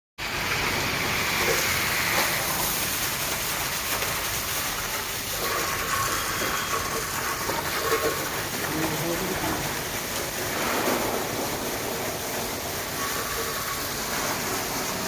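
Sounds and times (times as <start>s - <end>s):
high pressure water spray hiss: 0.3s - 15.0s.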